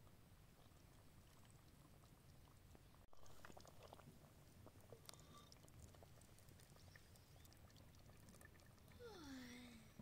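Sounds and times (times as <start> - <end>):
soft wet squelches: 0.0 - 10.0.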